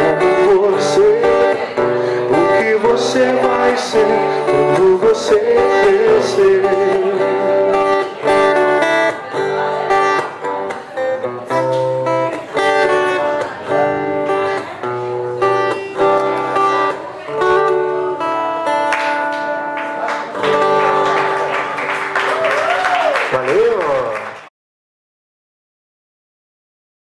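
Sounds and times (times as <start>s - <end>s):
acoustic guitar picking: 0.0s - 22.2s.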